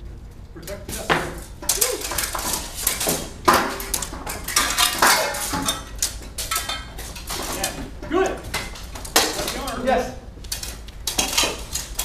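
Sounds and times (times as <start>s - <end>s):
swords and armour clashing: 0.6s - 12.0s.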